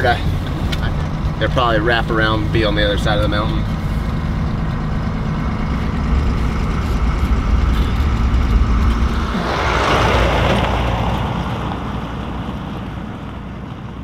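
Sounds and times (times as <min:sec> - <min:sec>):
truck engine and road rumble: 0:00.0 - 0:14.0
truck passing by: 0:00.0 - 0:14.0.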